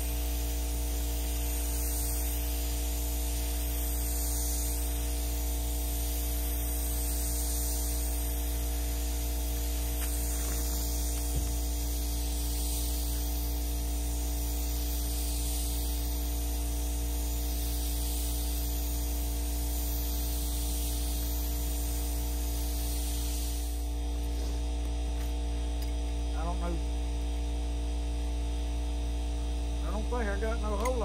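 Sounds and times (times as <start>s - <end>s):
paint spray gun hissing: 0.0s - 27.7s
air supply motor hum: 0.0s - 31.0s.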